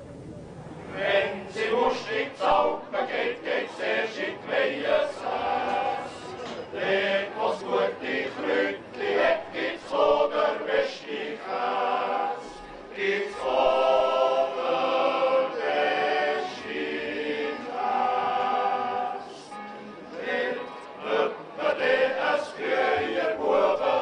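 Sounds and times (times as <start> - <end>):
choir singing in harmony: 0.9 - 24.0.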